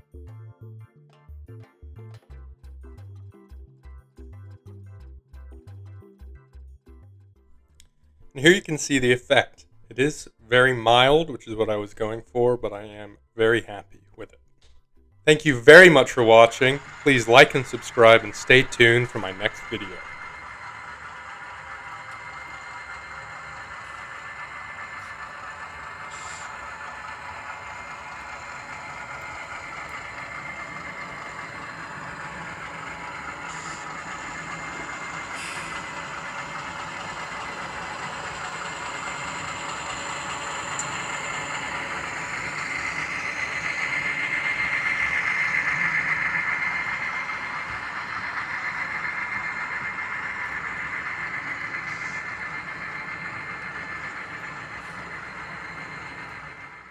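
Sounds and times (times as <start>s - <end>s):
model train humming on track: 7.8s - 14.4s, 15.3s - 56.9s.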